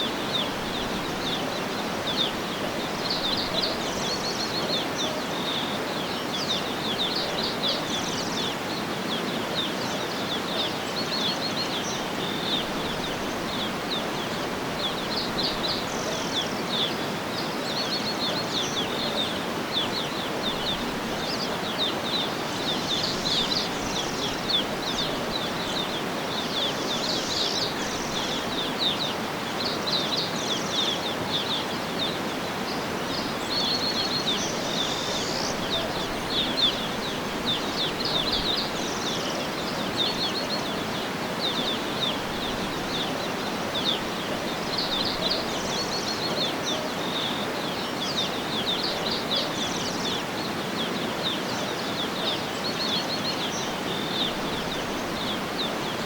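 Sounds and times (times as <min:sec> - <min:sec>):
birds chirping and trilling: 0:00.0 - 0:56.0
steady outdoor hiss: 0:00.0 - 0:56.0.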